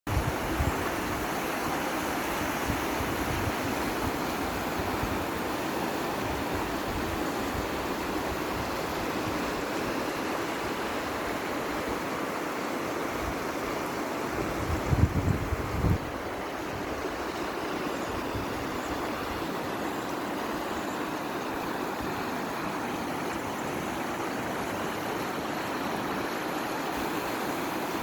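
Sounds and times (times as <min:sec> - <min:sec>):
floodwater rushing: 0:00.1 - 0:28.0.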